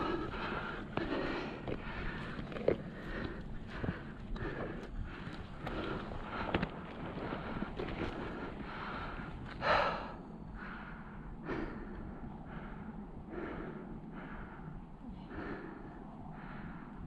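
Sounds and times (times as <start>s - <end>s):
heavy breathing: 0.0s - 17.0s.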